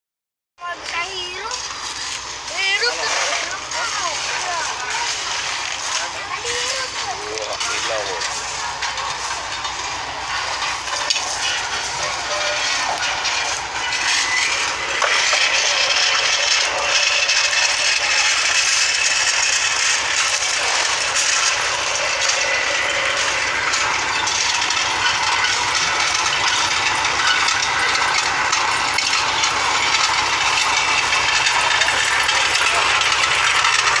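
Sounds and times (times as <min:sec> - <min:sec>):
clatter and scraping of hard knocks: 0:00.9 - 0:34.0.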